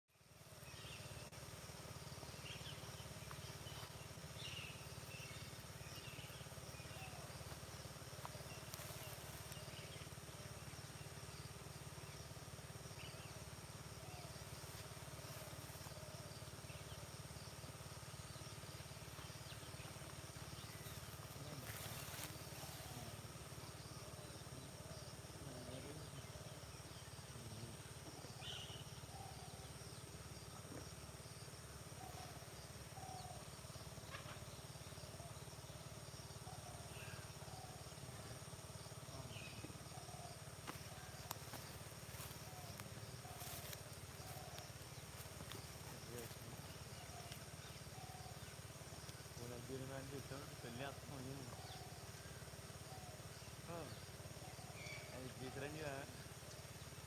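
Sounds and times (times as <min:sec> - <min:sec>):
high insect drone: 0:00.1 - 0:57.0.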